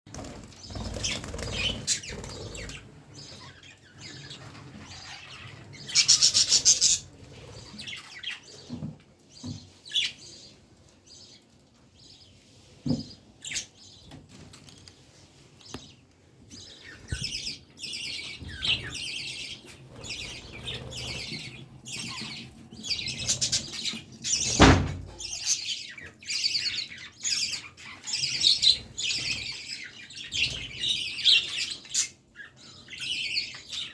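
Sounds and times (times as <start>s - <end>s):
budgerigars chirping and chattering: 0.2s - 14.2s, 16.6s - 33.9s.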